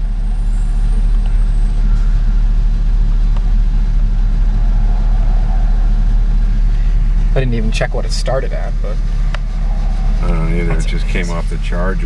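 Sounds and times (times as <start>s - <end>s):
road noise inside moving car: 0.0s - 12.0s.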